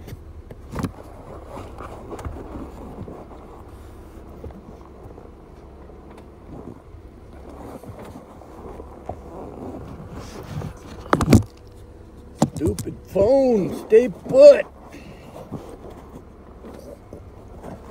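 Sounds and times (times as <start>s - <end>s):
vehicle rumbling on dirt trail: 0.0s - 17.9s.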